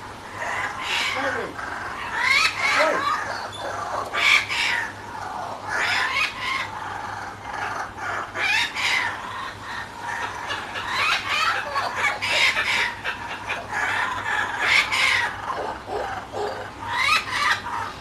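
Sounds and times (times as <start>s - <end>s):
kookaburras cackling calls: 0.0s - 18.0s.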